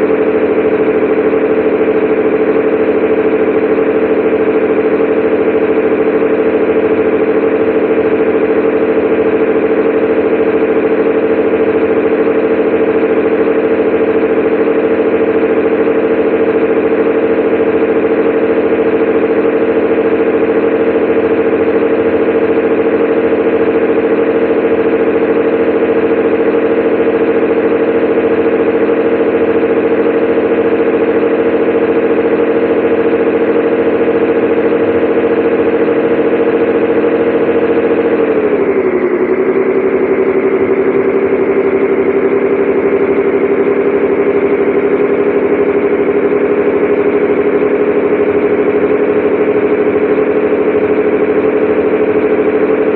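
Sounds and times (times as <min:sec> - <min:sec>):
truck diesel engine running: 0:00.0 - 0:52.9.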